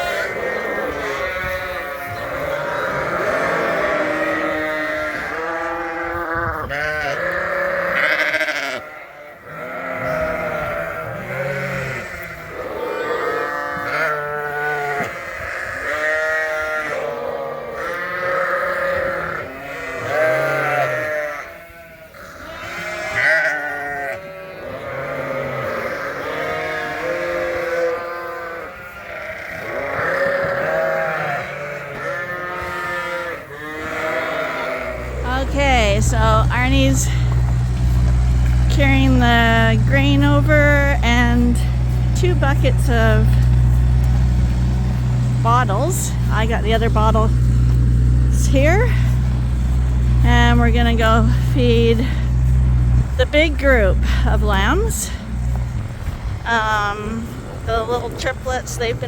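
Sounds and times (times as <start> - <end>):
sheep bleating: 0.0 - 57.3.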